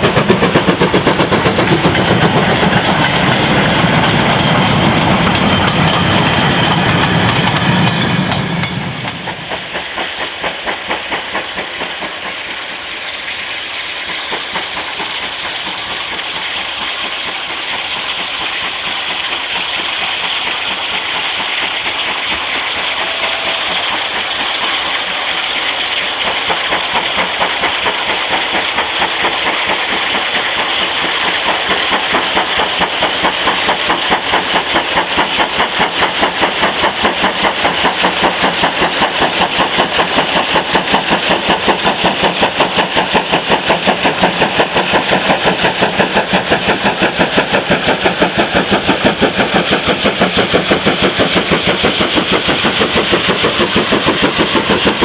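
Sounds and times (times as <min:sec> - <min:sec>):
steam locomotive exhaust beating: 0:00.0 - 0:55.0.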